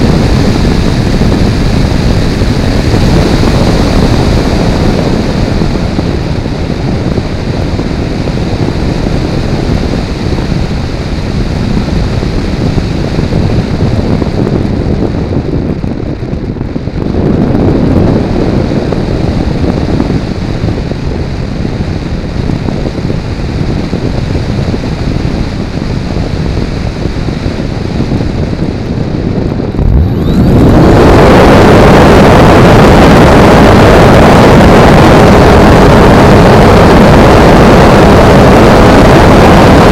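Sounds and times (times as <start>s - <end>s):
electric motor and propeller: 0.0s - 16.4s, 17.0s - 39.9s
airflow rushing over camera: 0.0s - 39.9s.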